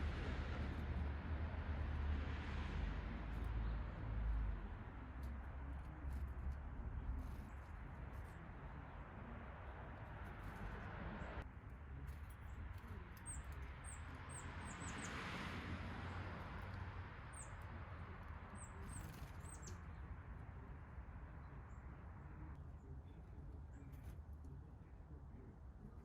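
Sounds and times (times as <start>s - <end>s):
low outdoor background: 0.0s - 26.0s
small birds chirping: 3.2s - 15.3s, 16.0s - 26.0s.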